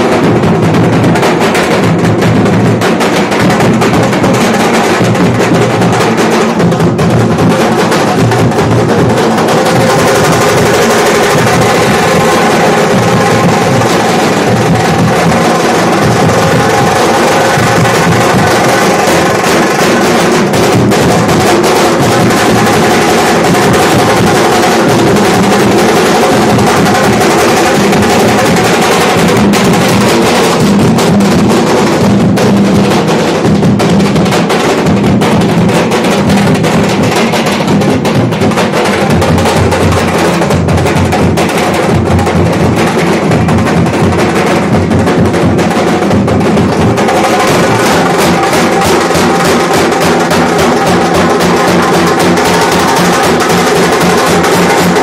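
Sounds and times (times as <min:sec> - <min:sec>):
large drums beaten fast: 0:00.0 - 0:55.0.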